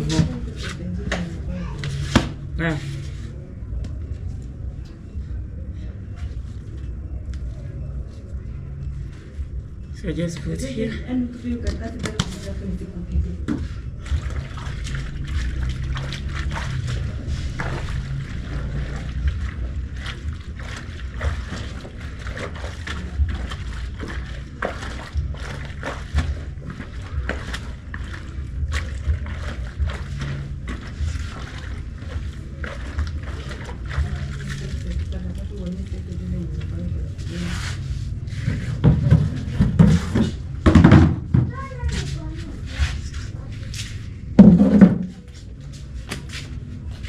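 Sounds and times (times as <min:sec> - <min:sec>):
water sloshing and splashing: 0:00.0 - 0:05.1, 0:10.6 - 0:47.0.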